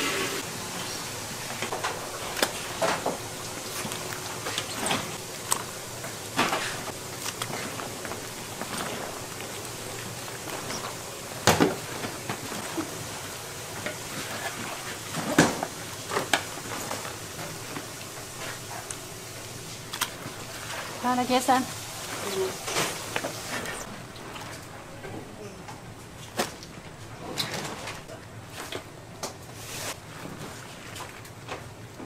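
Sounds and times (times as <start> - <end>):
steady background hiss: 0.0 - 27.2.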